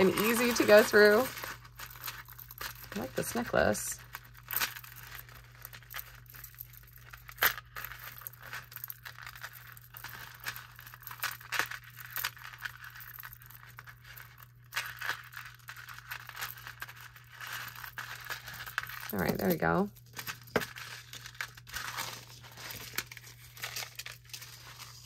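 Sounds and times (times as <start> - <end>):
jewelry chains and beads clinking: 0.0 - 25.0.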